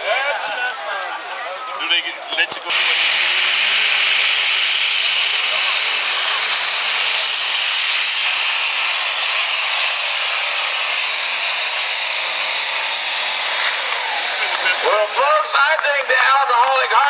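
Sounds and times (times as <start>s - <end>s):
pulling tractor engine roaring: 2.3s - 17.0s.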